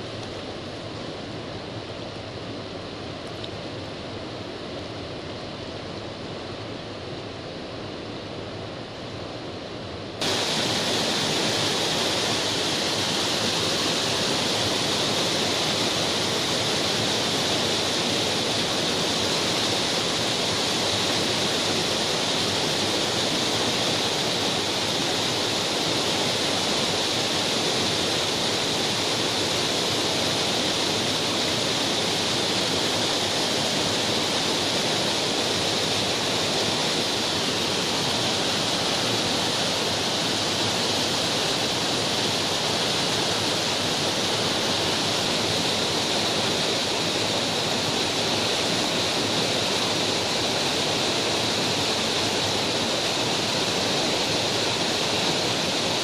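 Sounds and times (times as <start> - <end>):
waterfall rushing: 10.2 - 56.0.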